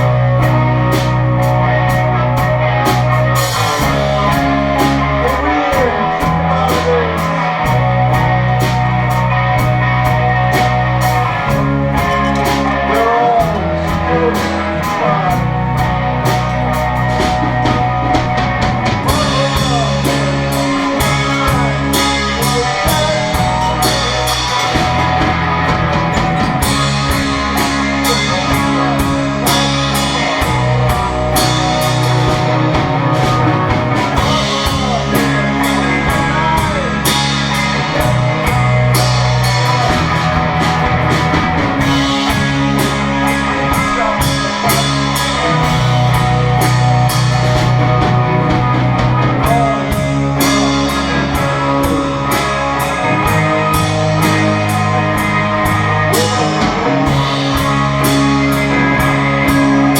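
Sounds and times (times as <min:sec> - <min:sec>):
bass guitar low notes: 0:00.0 - 0:59.9
drum kit with cymbal strokes: 0:00.0 - 0:59.9
electric guitars: 0:00.0 - 0:59.9.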